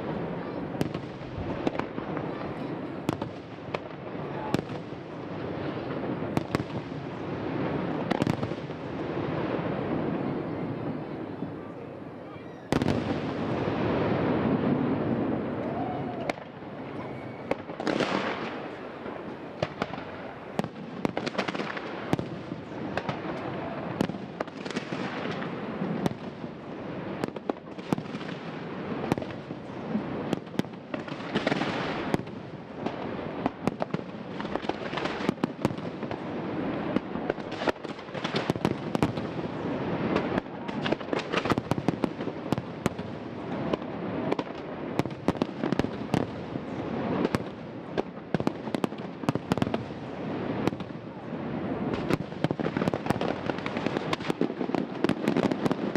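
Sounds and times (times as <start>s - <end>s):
firework bangs: 0.0s - 11.4s, 12.7s - 55.9s
firework crackle and hiss: 0.0s - 55.9s.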